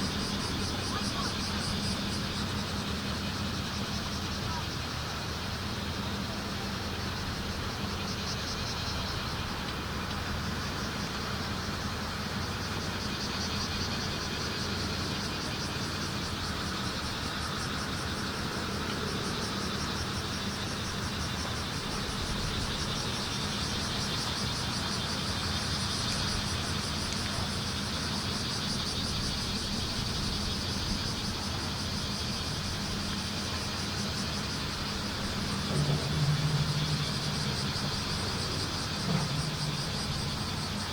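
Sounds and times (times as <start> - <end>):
cicadas singing pulsing chorus: 0.0 - 40.9
steady low hum: 0.0 - 40.9.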